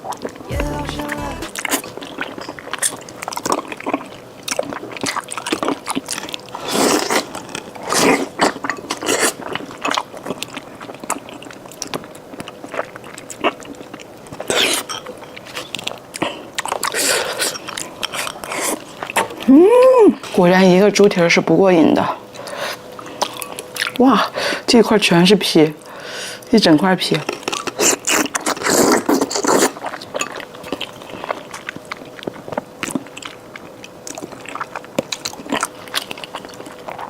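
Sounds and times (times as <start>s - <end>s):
chewing and lip-smacking: 0.0s - 19.5s, 22.3s - 24.0s, 27.2s - 37.0s.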